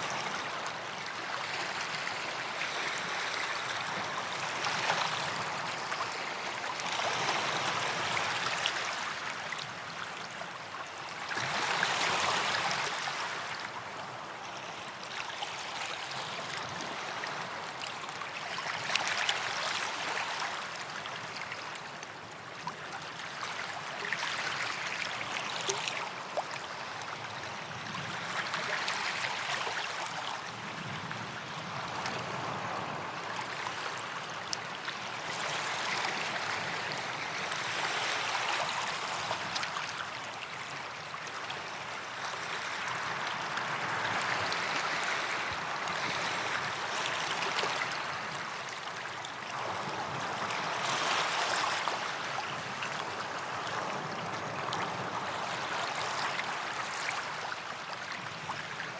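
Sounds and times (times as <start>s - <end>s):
small waves lapping on beach: 0.0s - 58.9s.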